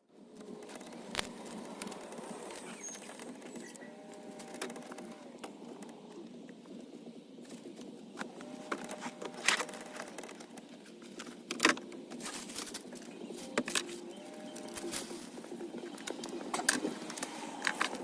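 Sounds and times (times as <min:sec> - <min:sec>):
rustling and light clicks: 0:00.3 - 0:18.0.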